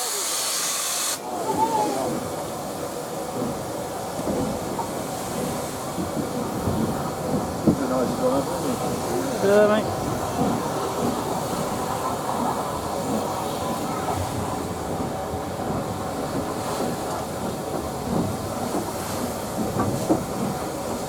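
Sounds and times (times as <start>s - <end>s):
steam train rumbling: 0.0s - 21.0s
wheels clicking over rail joints: 2.0s - 21.0s.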